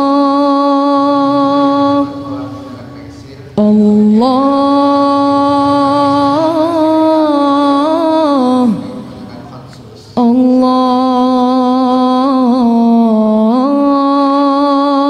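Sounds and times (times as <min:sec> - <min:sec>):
person singing unaccompanied: 0:00.0 - 0:09.5, 0:10.1 - 0:15.0.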